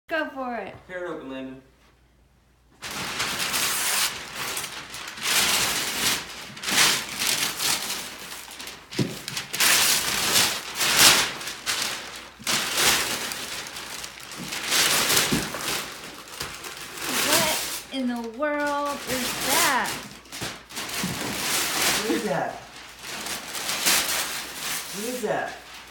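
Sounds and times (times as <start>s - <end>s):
paper crinkling: 2.8s - 25.9s
wrapping paper tearing: 2.8s - 25.9s.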